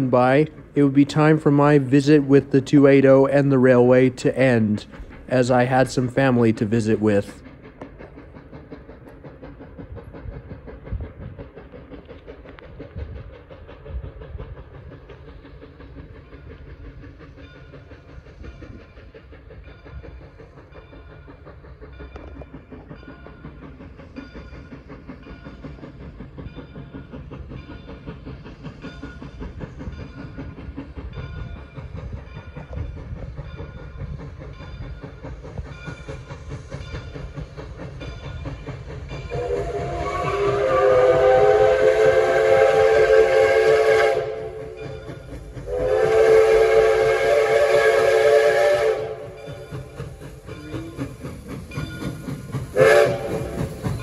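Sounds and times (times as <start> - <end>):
steam train rolling by: 0.0 - 54.0.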